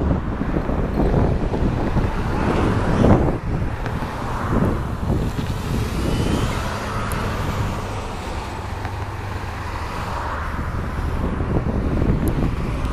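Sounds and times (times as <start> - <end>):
jet engines roaring: 0.0 - 12.9.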